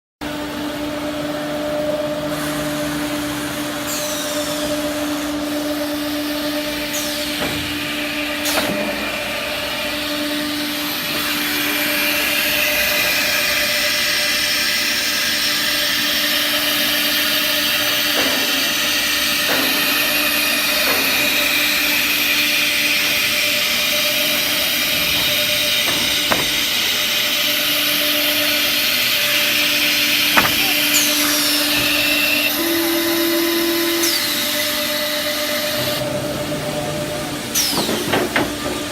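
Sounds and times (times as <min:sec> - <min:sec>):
machine hiss: 0:02.2 - 0:36.0
router two-tone hum: 0:05.6 - 0:37.9.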